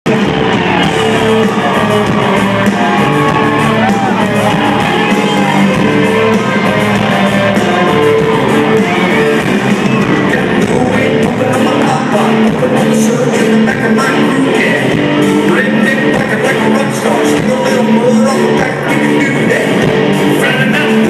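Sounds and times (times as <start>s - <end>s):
electric guitars: 0.0s - 21.0s
live country rock band playing: 0.0s - 21.0s
voices singing or shouting: 0.1s - 21.0s.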